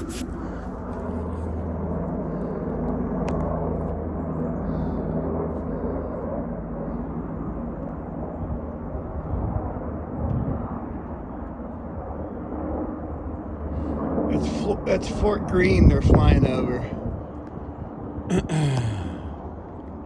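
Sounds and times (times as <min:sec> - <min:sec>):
helicopters droning overhead: 0:00.0 - 0:20.0.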